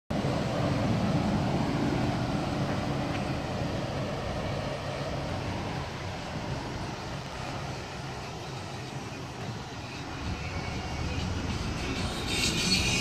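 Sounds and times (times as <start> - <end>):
car engine idling: 0.2 - 13.0.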